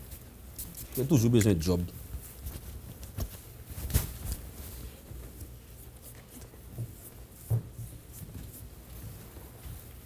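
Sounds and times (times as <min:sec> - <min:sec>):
handling noise at a desk: 0:00.0 - 0:10.0
soft rustling: 0:00.0 - 0:10.0.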